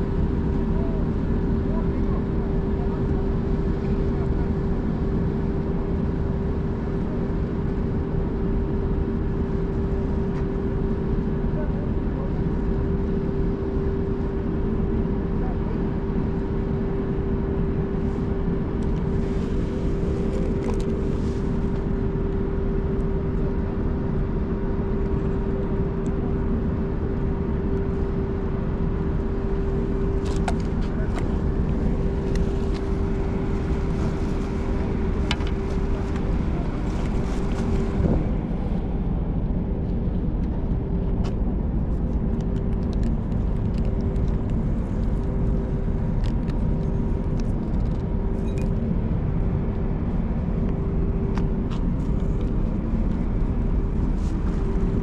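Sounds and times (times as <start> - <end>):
ship engines droning: 0.0 - 42.3, 43.0 - 55.0.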